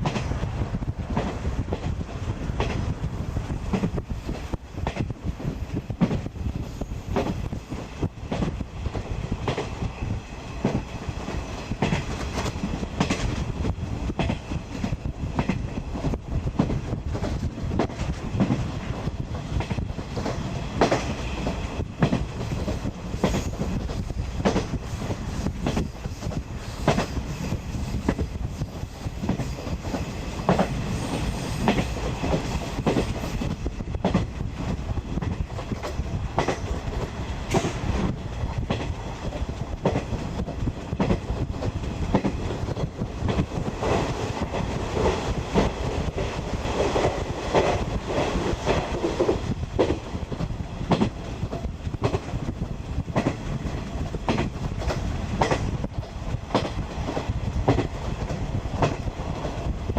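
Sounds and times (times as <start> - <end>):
train carriage rolling rumble: 0.0 - 59.9.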